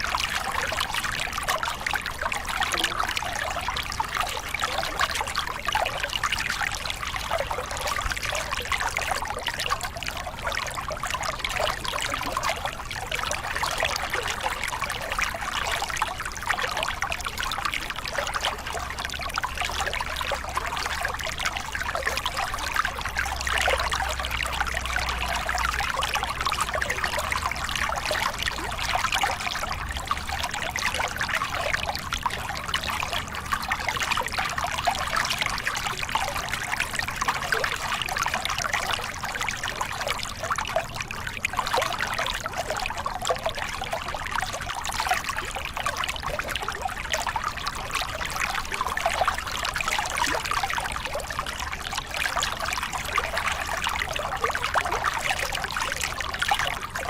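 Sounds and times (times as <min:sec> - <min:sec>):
water splashing over rocks: 0:00.0 - 0:57.0.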